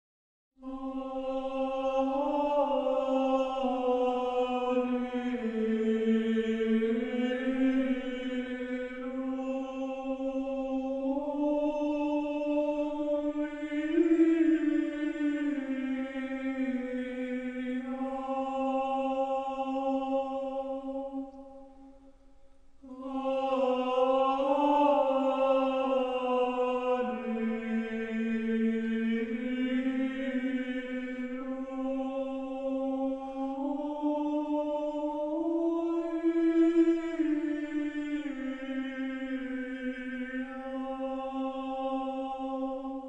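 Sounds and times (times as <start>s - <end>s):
church chant singing: 0.6s - 43.0s.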